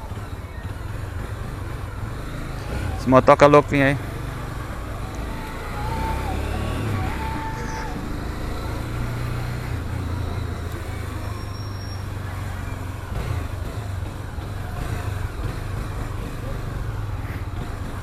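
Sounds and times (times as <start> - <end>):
motorcycle engine droning: 0.0 - 18.0
surrounding car and truck traffic: 0.0 - 18.0.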